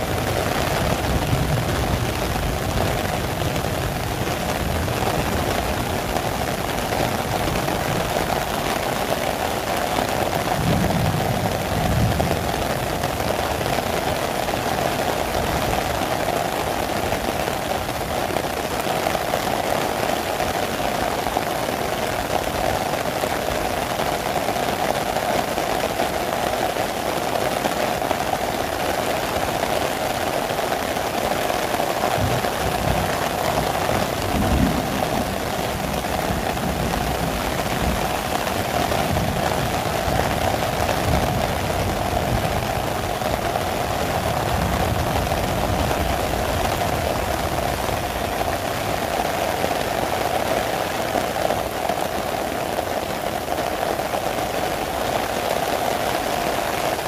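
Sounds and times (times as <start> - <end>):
rain drumming on plastic umbrella: 0.0 - 57.0
rain hissing on paving and grass: 0.0 - 57.0.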